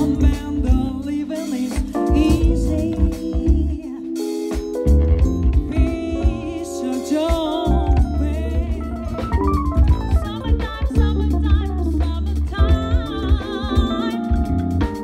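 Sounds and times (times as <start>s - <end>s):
electric bass: 0.0s - 3.9s, 4.6s - 15.0s
woman singing with vibrato: 0.0s - 4.5s, 5.6s - 14.6s
conga percussion: 0.0s - 15.0s
drum kit: 0.0s - 15.0s.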